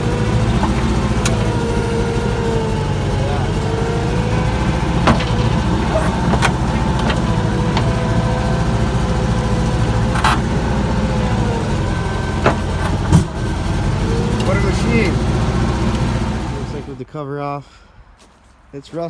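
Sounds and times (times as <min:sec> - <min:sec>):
engine idling: 0:00.0 - 0:17.1.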